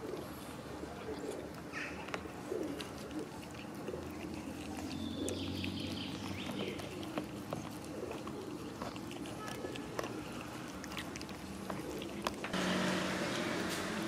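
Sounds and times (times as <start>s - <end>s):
cats chewing and lapping food: 0.0s - 14.0s.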